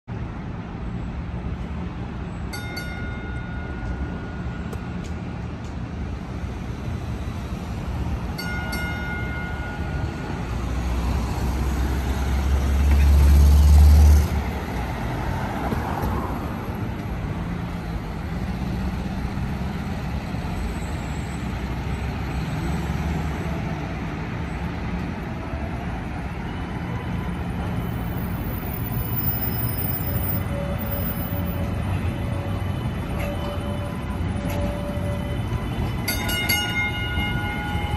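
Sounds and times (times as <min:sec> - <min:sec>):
street traffic: 0:00.0 - 0:37.9
light-rail car on tracks: 0:00.1 - 0:37.9.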